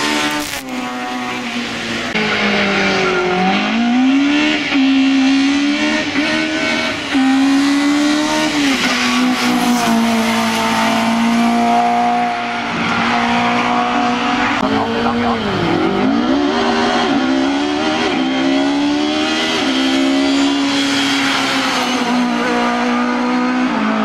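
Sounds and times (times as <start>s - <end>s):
race car engine at full throttle: 0.0s - 24.0s.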